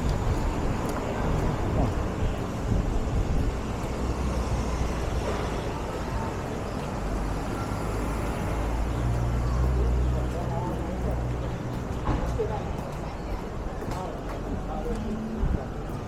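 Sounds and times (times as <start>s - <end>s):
passing vehicles: 0.0s - 16.0s.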